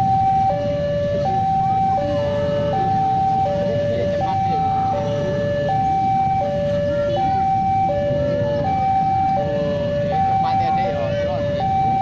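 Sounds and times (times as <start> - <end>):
level-crossing alarm two-tone signal: 0.0 - 12.0.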